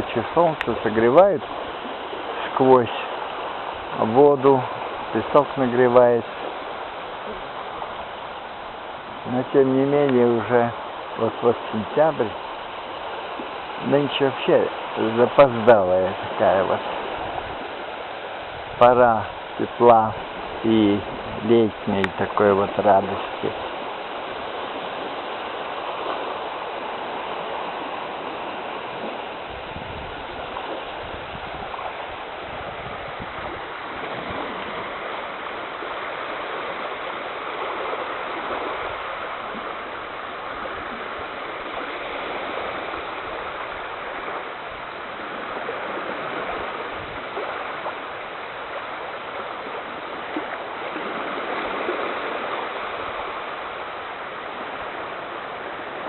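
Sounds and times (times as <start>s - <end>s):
seawater sloshing and splashing: 0.0s - 56.0s.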